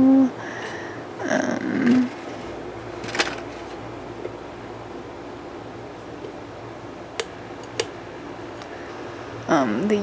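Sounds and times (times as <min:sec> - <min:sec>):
room tone hiss: 0:00.0 - 0:10.0.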